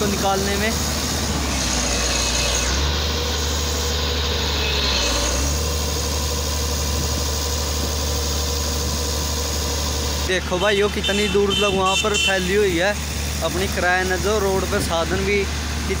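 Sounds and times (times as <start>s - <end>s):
excavator diesel engine drone: 0.0s - 16.0s.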